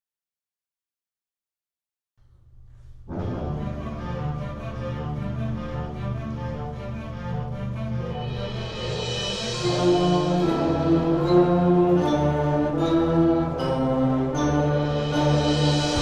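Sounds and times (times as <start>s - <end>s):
wind band playing held chords: 3.1s - 16.0s.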